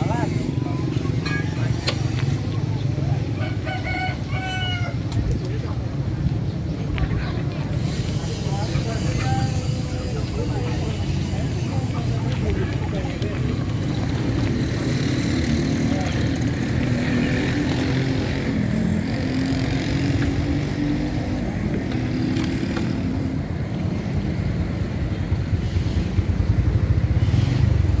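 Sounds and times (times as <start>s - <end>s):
motorcycles and scooters passing: 0.0s - 28.0s
traffic rumble: 0.0s - 28.0s.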